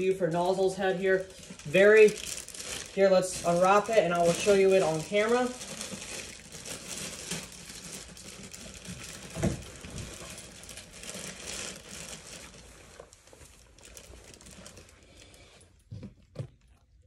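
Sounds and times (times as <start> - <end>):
packaging crinkling and rustling: 0.0 - 16.9.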